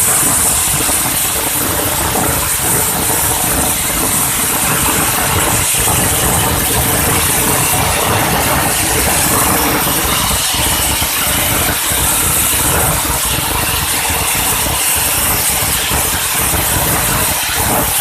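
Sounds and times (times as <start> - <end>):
mechanical rumble: 0.0 - 18.0
steam hiss: 0.0 - 18.0.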